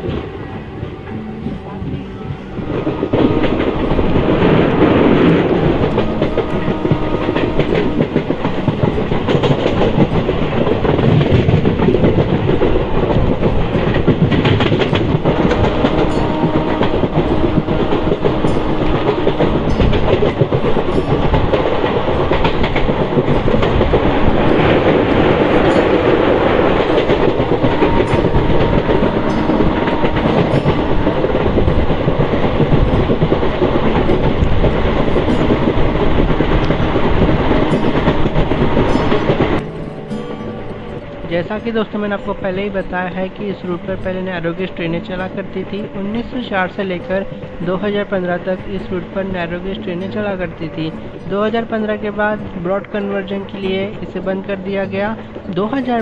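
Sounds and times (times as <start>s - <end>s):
train coach rumbling: 0.0s - 56.0s
wheels clacking over rail joints: 0.0s - 56.0s.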